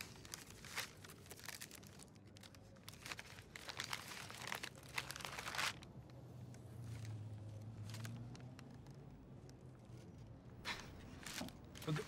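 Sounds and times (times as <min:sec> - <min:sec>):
gift wrap crinkling and tearing: 0:00.0 - 0:10.1, 0:10.7 - 0:12.0.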